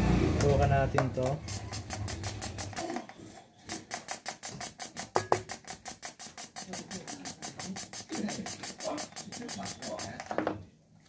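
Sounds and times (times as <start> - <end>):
fuel injector clicking rapidly: 0.4 - 10.3.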